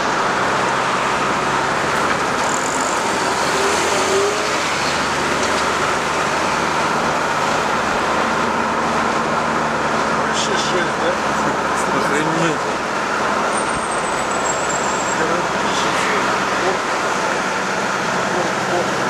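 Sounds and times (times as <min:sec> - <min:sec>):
bus passing: 0:00.0 - 0:19.0
car road and engine noise: 0:00.0 - 0:19.0
traffic passing close: 0:00.0 - 0:19.0.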